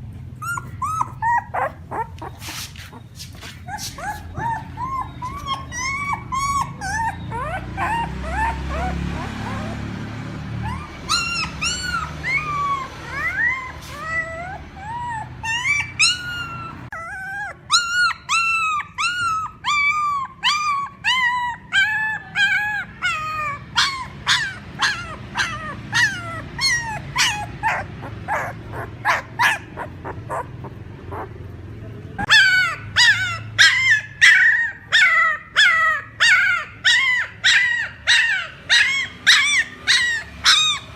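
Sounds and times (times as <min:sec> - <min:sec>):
puppy whimpering and yelping: 0:00.0 - 0:40.9.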